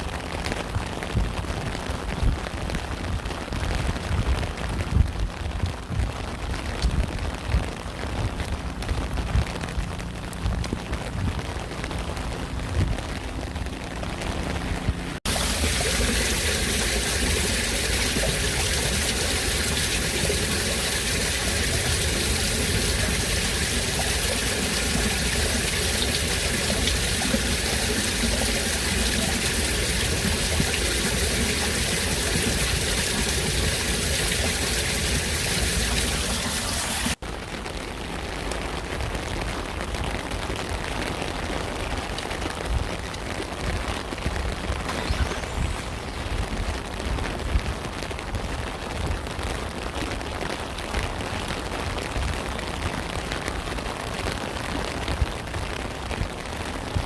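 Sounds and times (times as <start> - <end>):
rain drops hitting: 0.0 - 57.0
rain falling: 0.0 - 57.0.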